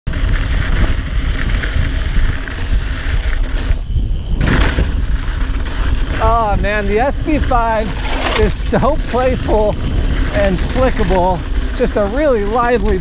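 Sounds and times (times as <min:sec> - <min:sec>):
mountain bike tyre and trail noise: 0:00.1 - 0:13.0
wind buffeting microphone: 0:00.1 - 0:13.0.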